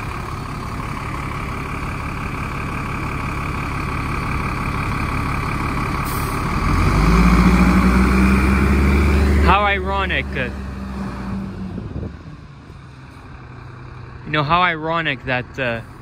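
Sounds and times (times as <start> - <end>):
bus diesel engine idling and revving: 0.0 - 16.0.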